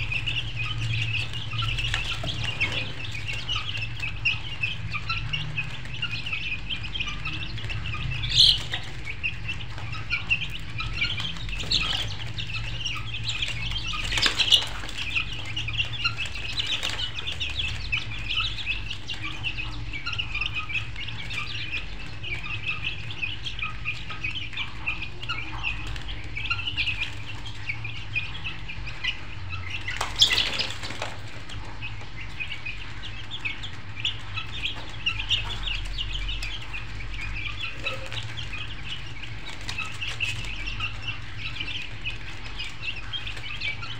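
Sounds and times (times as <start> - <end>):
flock of birds chirping: 0.0 - 43.9
steady low hum: 0.0 - 43.9.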